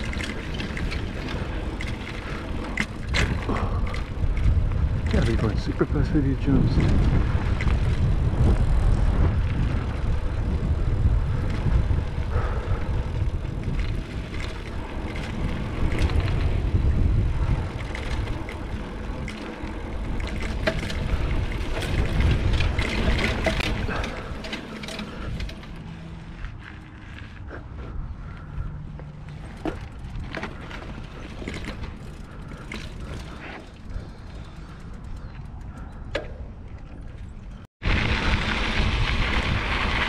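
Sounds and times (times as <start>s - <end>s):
mountain bike rattling on dirt trail: 0.0s - 40.0s
wind buffeting microphone: 0.0s - 40.0s.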